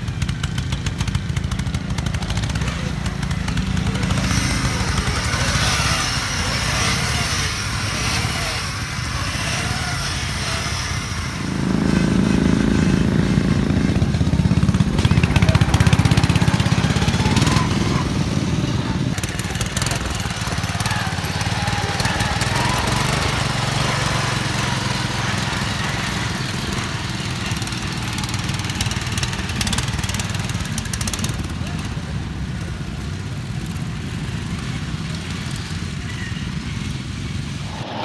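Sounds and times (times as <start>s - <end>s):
lawn mower engines revving: 0.0s - 38.0s.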